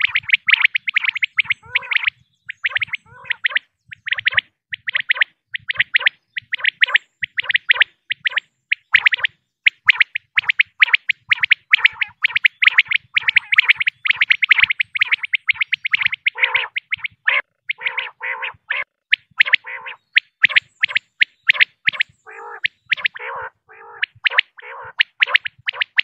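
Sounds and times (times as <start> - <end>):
quail chirping rapidly: 0.0 - 26.0.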